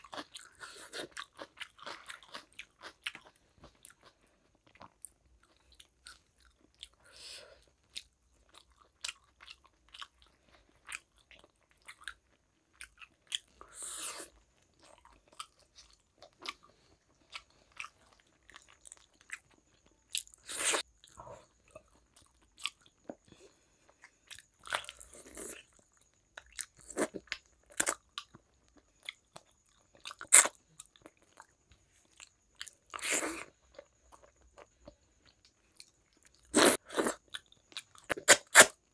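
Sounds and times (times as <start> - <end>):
chewing with mouth clicks: 0.0 - 38.8.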